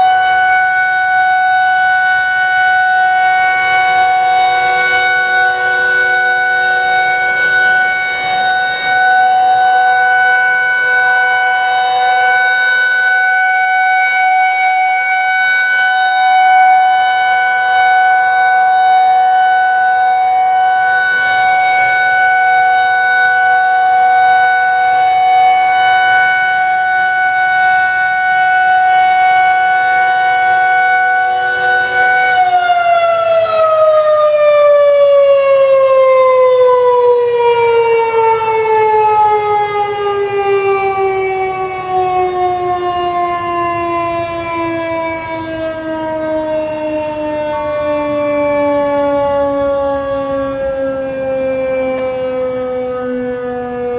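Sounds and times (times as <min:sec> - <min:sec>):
warning siren steady tone: 0:00.0 - 0:53.9.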